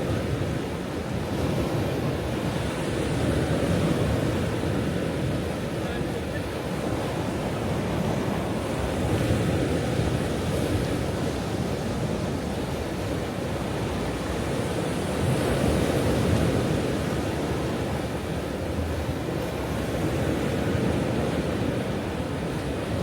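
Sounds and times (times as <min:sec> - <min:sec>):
ocean waves breaking on shore: 0:00.0 - 0:23.0.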